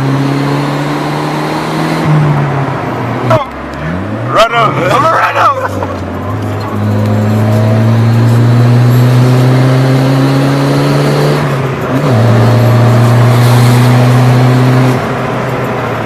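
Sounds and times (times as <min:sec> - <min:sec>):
car engine pulling under load: 0:00.0 - 0:16.0.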